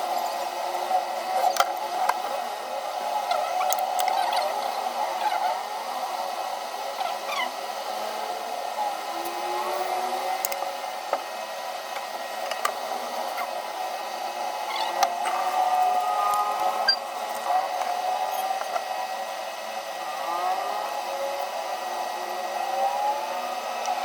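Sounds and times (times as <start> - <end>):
electric whir: 0.0 - 24.0.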